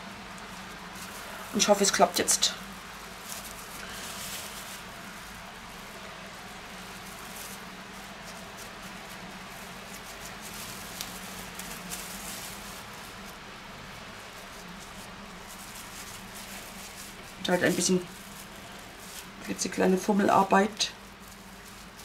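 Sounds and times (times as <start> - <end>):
cling film crinkling: 0.0 - 22.0
steady low hum: 0.0 - 22.0.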